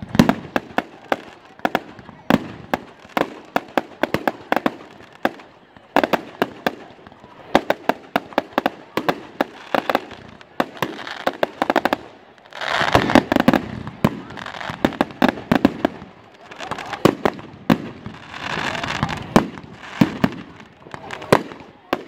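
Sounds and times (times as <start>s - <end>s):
dense fireworks crackling: 0.0s - 22.0s
fireworks exploding: 0.0s - 22.0s.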